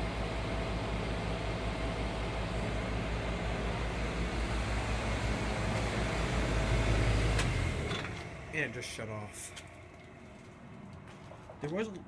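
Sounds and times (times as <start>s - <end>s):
compressor hum: 0.0s - 12.0s
fan noise: 0.0s - 12.0s.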